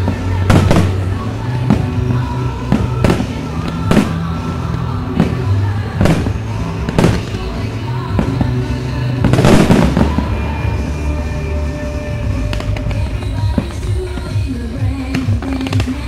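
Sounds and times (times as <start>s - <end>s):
fireworks bursting: 0.0s - 16.0s
fireworks crackle: 0.0s - 16.0s
music with steady bass line: 0.0s - 16.0s.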